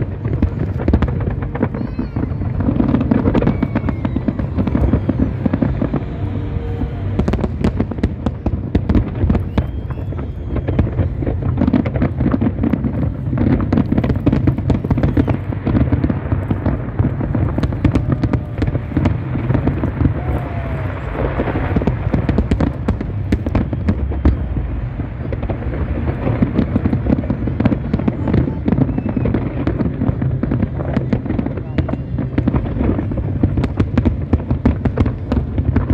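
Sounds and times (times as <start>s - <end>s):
fireworks bangs and crackles: 0.0s - 35.9s
low rumble: 0.0s - 35.9s.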